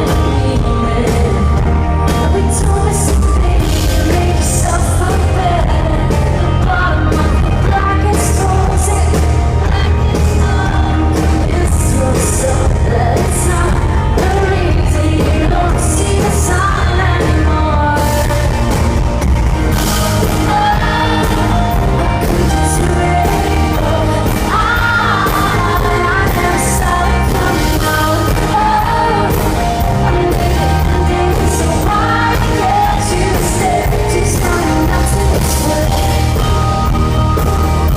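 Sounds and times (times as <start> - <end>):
live rock band playing: 0.0 - 37.9
woman singing lead: 0.0 - 37.9.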